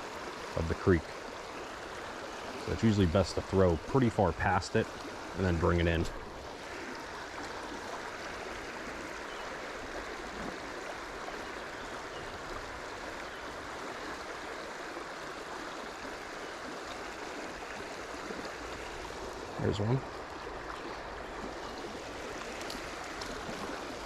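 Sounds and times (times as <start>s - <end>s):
creek water running over rocks: 0.0s - 24.0s.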